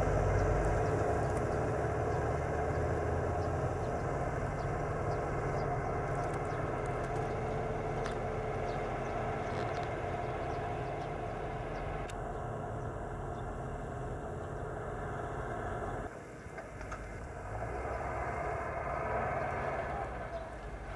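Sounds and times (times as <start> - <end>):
farm machine engine running: 0.0 - 20.9.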